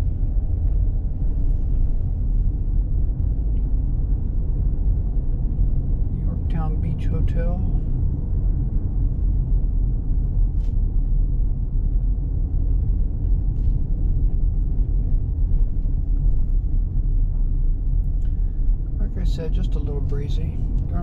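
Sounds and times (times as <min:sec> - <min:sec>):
car driving inside cabin: 0:00.0 - 0:21.0.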